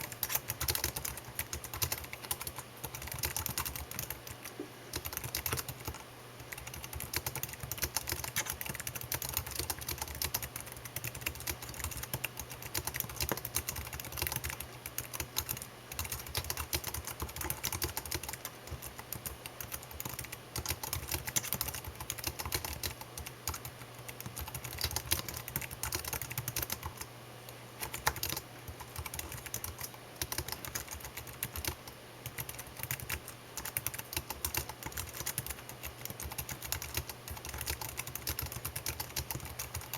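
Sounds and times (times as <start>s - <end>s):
fast typing on keyboard: 0.0s - 27.1s, 27.8s - 39.9s
faint low hum: 0.0s - 39.9s.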